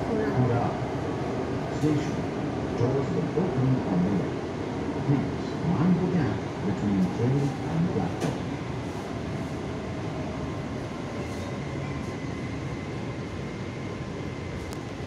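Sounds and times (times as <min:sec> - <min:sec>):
metro train rumble: 0:00.0 - 0:15.0.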